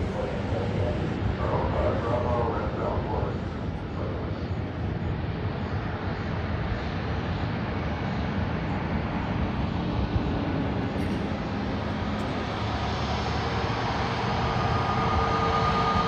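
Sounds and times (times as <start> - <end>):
high engine whine: 0.0 - 16.0
jet engines rumbling at taxi power: 0.0 - 16.0.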